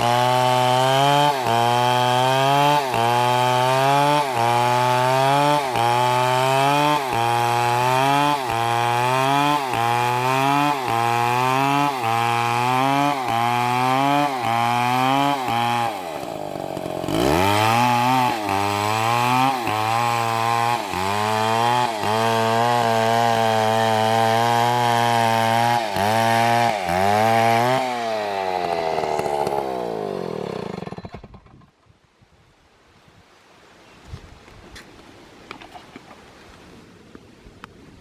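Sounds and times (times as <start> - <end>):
chainsaw cutting at high revs: 0.0 - 31.6.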